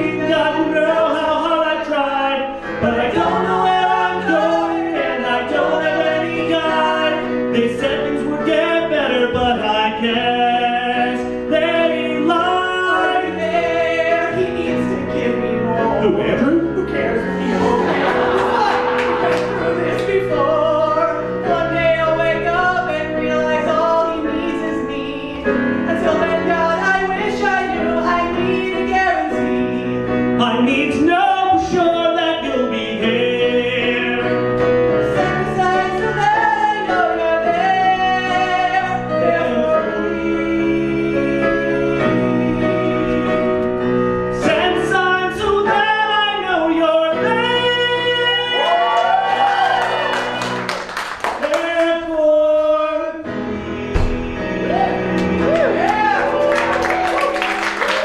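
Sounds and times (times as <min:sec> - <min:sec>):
man and woman singing a duet: 0:00.0 - 0:50.6, 0:51.2 - 0:58.0
instrumental accompaniment: 0:00.0 - 0:58.0.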